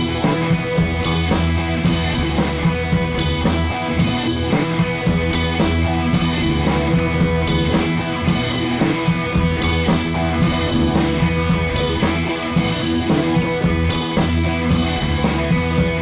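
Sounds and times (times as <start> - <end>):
music with drums and guitar: 0.0 - 16.0.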